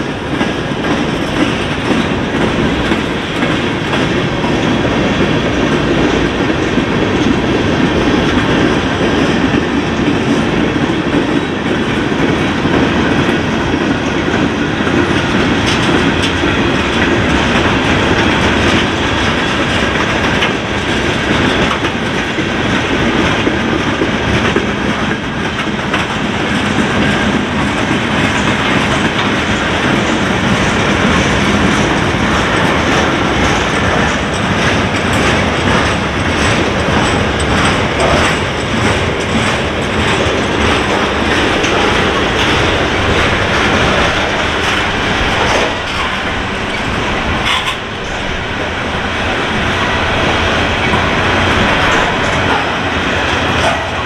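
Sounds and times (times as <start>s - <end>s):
rail rumble: 0.0s - 54.0s
wheels clicking over rail joints: 0.0s - 54.0s.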